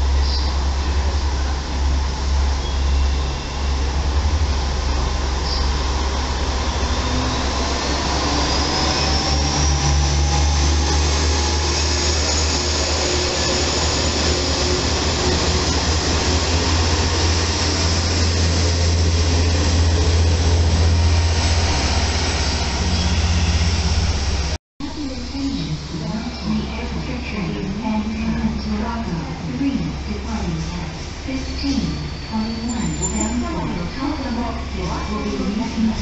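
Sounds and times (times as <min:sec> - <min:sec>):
railcar diesel engine throbbing: 0:00.0 - 0:36.0.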